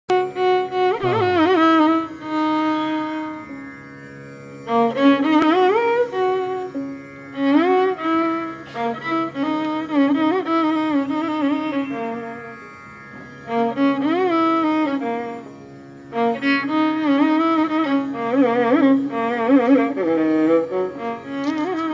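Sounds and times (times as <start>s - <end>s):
ornamented melody over drone: 0.1s - 21.9s.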